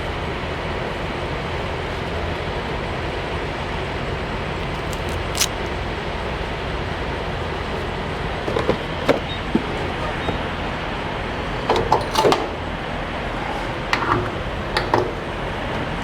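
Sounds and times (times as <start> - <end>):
semi truck rumble: 0.0 - 16.0.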